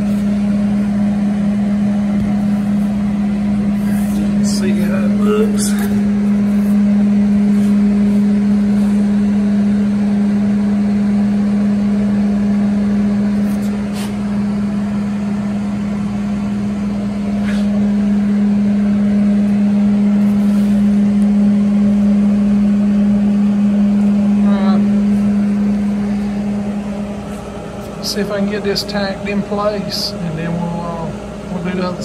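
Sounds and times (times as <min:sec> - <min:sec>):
heater humming: 0:00.0 - 0:32.0.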